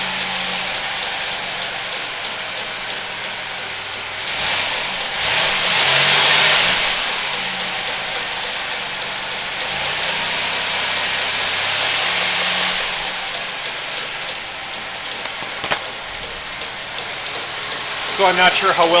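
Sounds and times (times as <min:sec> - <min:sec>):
car engine idling: 0:00.0 - 0:19.0
engine ticking: 0:00.0 - 0:19.0.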